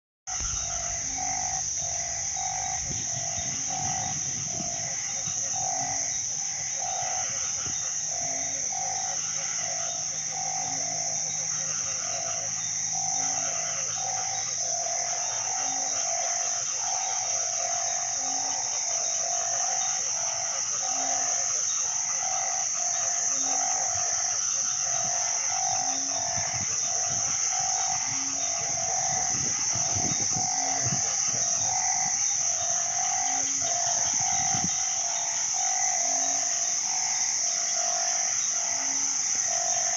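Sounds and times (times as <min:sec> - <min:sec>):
frogs calling: 0:00.3 - 0:39.9
high drone of insects: 0:00.3 - 0:39.9.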